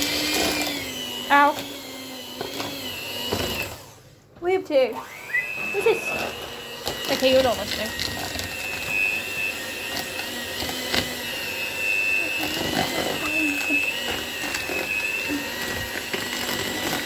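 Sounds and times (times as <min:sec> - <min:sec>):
kitchen appliance motor whine: 0:00.0 - 0:04.1, 0:04.7 - 0:17.0.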